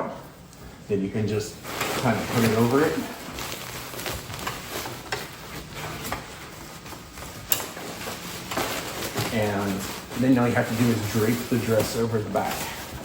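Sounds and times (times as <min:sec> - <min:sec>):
cloth rustling: 0:01.4 - 0:13.0.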